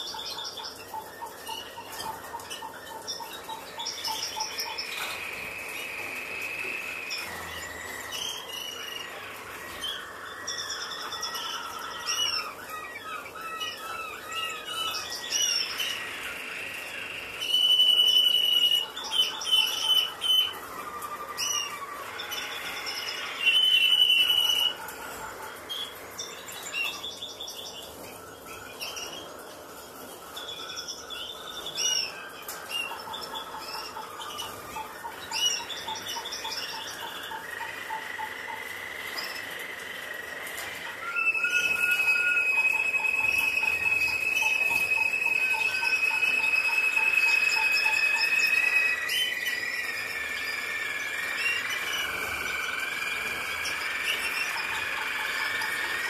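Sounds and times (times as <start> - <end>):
goldfinches chirping and trilling: 0.0 - 56.0.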